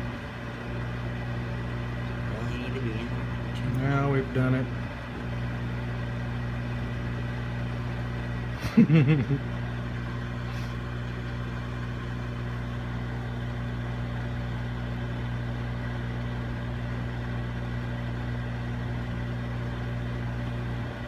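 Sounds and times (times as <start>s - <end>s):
microwave oven humming with fan: 0.0s - 21.0s.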